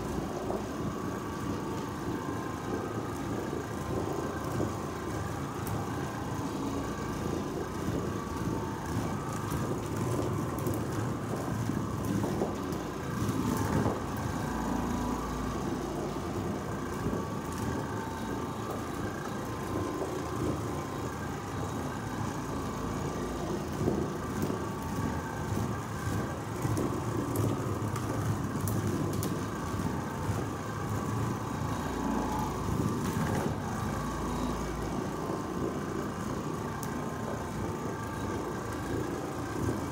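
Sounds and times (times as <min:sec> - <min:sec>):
floor machine motor humming: 0:00.0 - 0:39.9.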